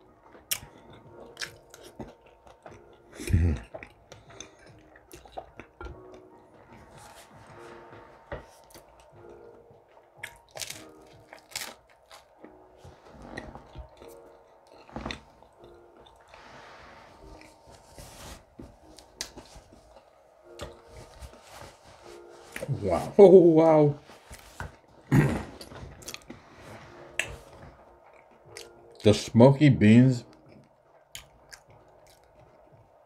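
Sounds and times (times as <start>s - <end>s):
person chewing food: 0.0s - 21.4s, 24.2s - 29.0s, 30.3s - 33.0s.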